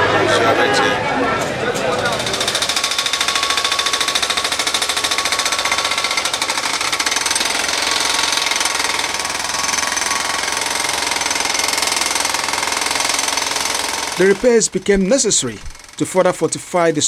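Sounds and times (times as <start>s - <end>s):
hydraulic breaker hammering concrete: 2.1s - 17.0s.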